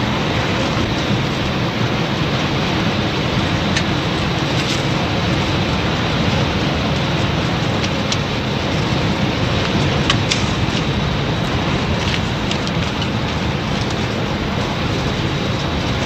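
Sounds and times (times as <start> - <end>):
loud mechanical din: 0.0 - 16.0
sharp clicks and rattles: 0.3 - 16.0.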